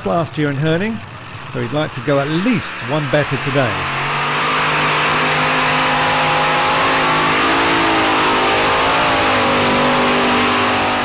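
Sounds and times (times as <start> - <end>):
tractor engines running hard: 0.0 - 11.0.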